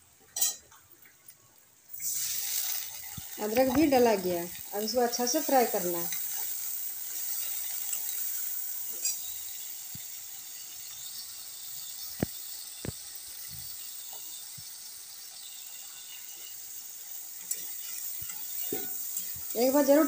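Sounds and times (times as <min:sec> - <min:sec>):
onion sizzling in oil: 0:00.3 - 0:20.0.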